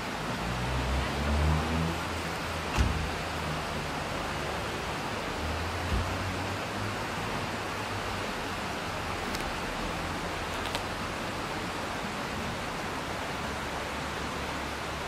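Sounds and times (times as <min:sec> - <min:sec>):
stream running over gravel: 0:00.0 - 0:15.0.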